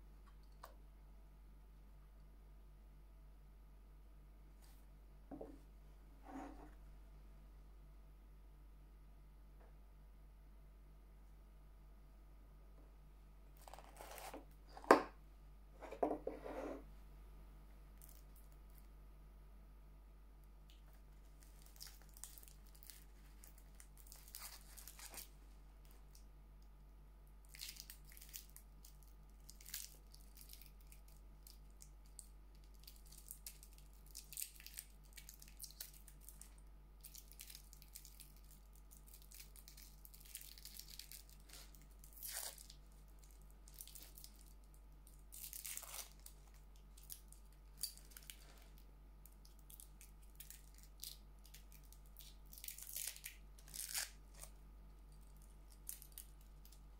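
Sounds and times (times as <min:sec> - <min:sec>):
faint low hum: 0:00.0 - 0:56.9.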